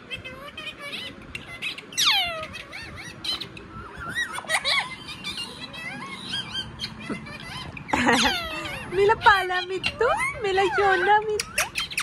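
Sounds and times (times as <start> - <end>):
parrot wavering chirps: 0.0 - 12.0
parrot squawk: 0.1 - 12.0.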